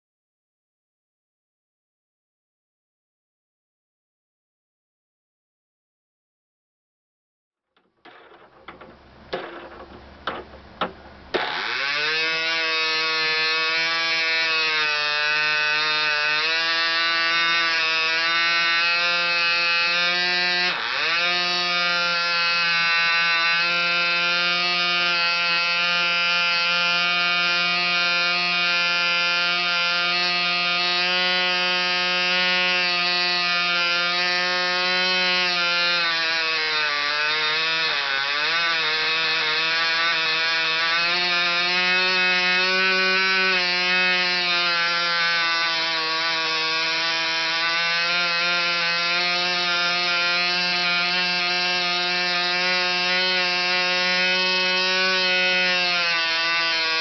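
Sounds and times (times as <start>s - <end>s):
model engine high-pitched buzz: 8.1s - 57.0s.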